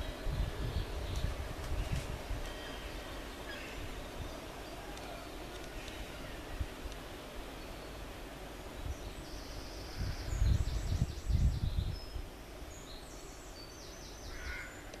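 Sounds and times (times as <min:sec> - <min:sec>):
birdsong: 0:00.0 - 0:15.0.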